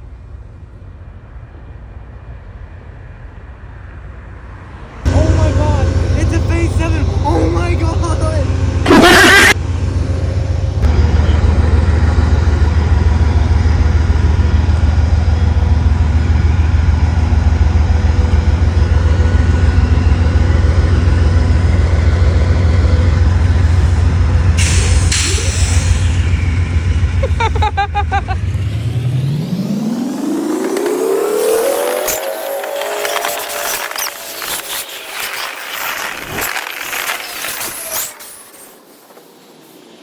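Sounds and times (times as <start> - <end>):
heavy engine rumbling: 4.7 - 37.1
whine rising in pitch: 5.1 - 38.1.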